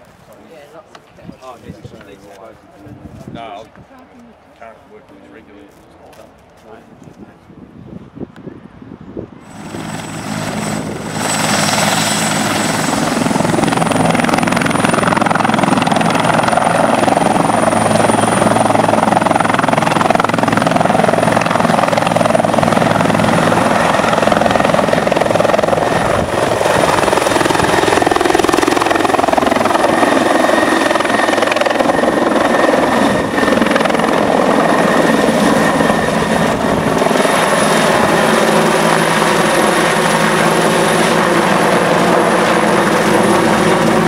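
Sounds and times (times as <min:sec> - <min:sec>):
helicopter rotor and turbine: 0:00.0 - 0:44.0
high turbine whine: 0:01.3 - 0:44.0.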